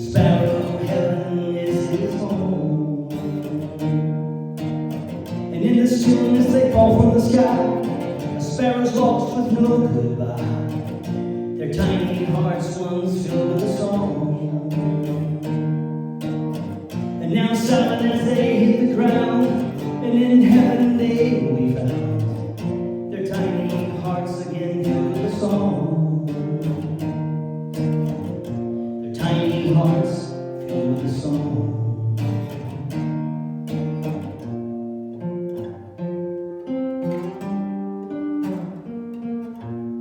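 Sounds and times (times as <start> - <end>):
acoustic guitar plucking: 0.0 - 40.0.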